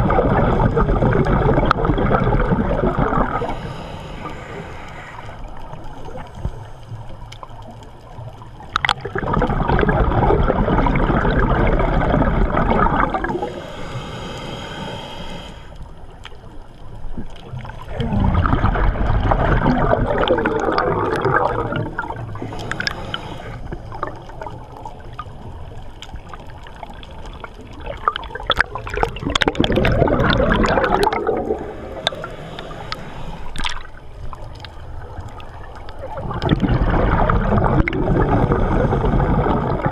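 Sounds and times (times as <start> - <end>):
underwater regulator bubbling: 0.0 - 7.6, 8.3 - 15.6, 17.0 - 39.9.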